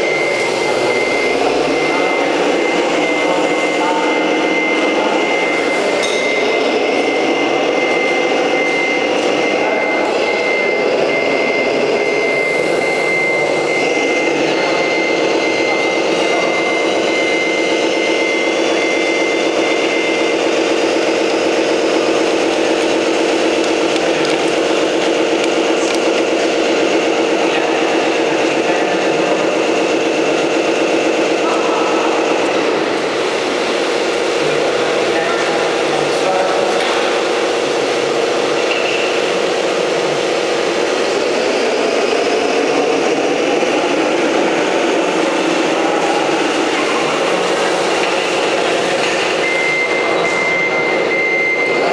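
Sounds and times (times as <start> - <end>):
reversing alarm beeps: 0.0 - 51.9
vehicle engine drone: 0.0 - 51.9.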